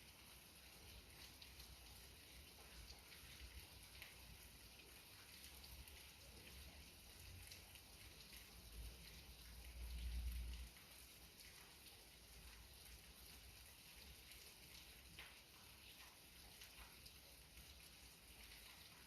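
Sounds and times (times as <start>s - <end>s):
light rain patter: 0.0s - 19.0s.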